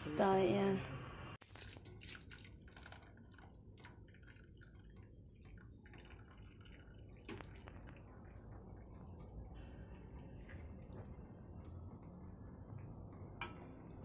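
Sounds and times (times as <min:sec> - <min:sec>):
water dripping: 0:01.4 - 0:14.0.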